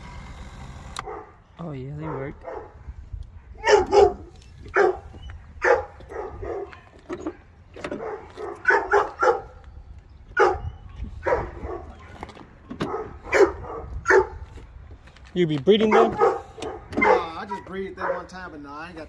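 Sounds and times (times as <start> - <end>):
big dogs barking: 1.0 - 14.5, 15.8 - 18.5.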